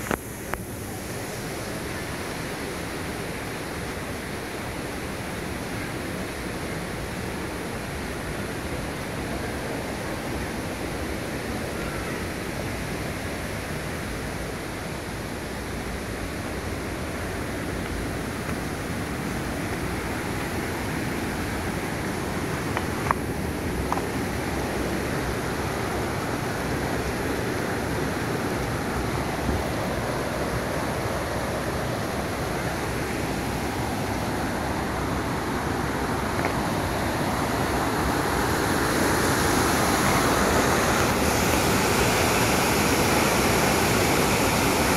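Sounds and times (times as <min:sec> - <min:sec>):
stream and waterfall rushing: 0:00.0 - 0:44.9.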